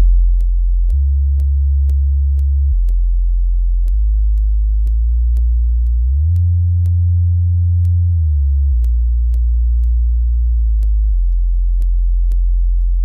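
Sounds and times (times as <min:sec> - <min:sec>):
deep bass test tones: 0:00.0 - 0:13.0.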